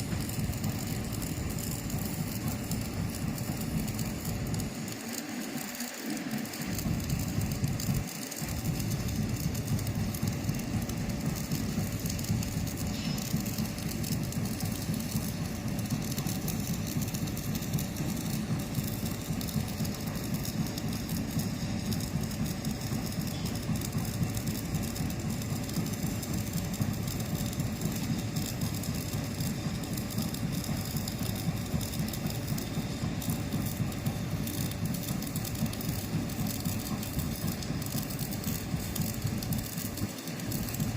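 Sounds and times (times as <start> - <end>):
welding arc crackling: 0.0 - 40.9.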